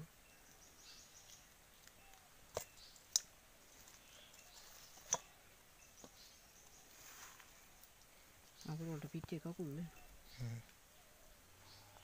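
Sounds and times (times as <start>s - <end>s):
quiet handling of vegetables: 1.3s - 12.0s.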